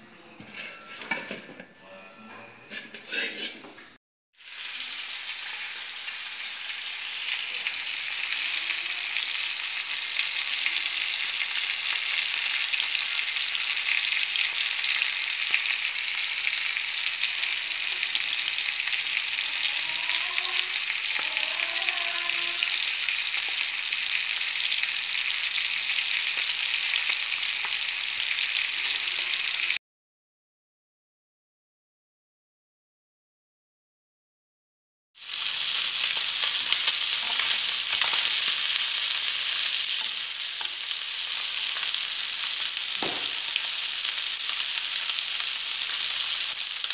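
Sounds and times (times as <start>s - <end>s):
frying in hot oil: 2.9s - 29.8s, 35.2s - 46.9s.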